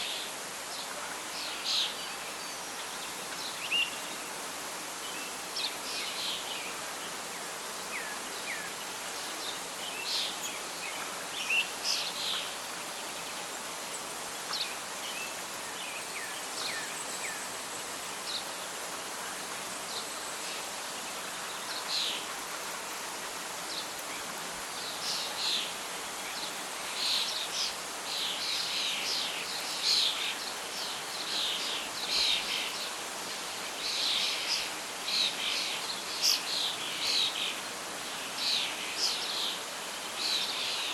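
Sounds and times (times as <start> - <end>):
wind or rustling leaves hiss: 0.0 - 40.9.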